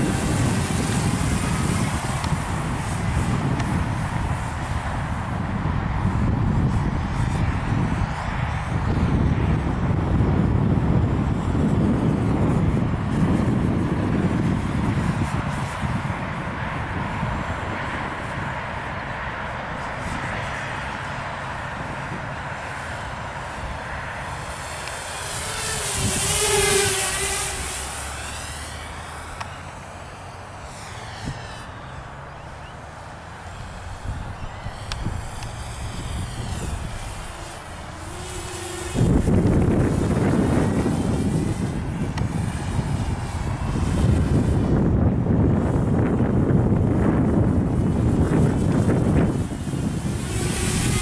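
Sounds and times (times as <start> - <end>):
quadcopter propellers buzzing: 0.0 - 51.0.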